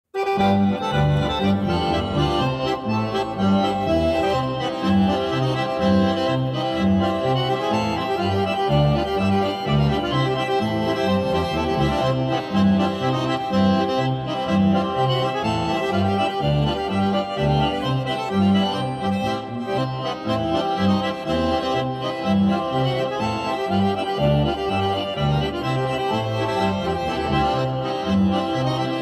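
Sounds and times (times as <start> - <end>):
accordion playing folk dance tune: 0.1 - 29.0
alternating bass notes: 0.2 - 29.0.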